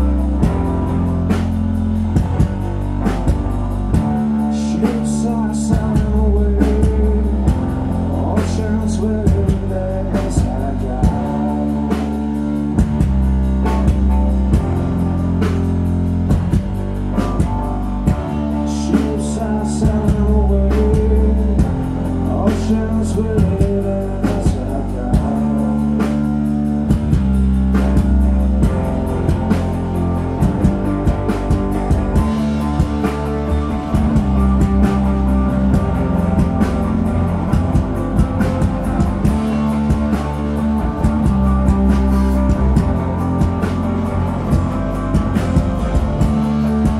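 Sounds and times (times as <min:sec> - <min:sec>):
drum kit steady beat: 0:00.0 - 0:46.9
electric guitar: 0:00.0 - 0:46.9
heavy bass guitar line: 0:00.0 - 0:46.9.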